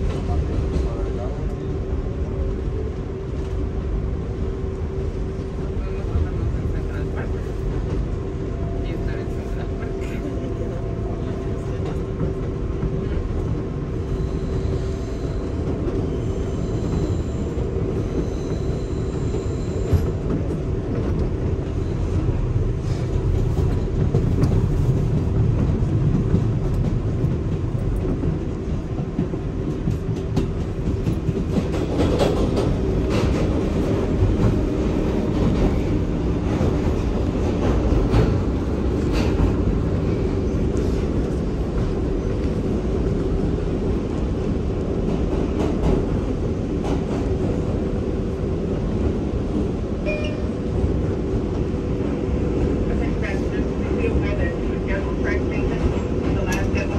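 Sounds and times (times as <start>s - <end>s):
subway train rumble: 0.0s - 56.9s.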